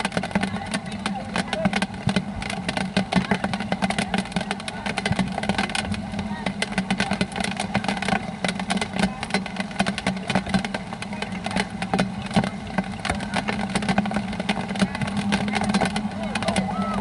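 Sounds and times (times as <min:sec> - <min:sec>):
rain pattering on umbrella: 0:00.0 - 0:17.0
steady low hum: 0:00.0 - 0:17.0.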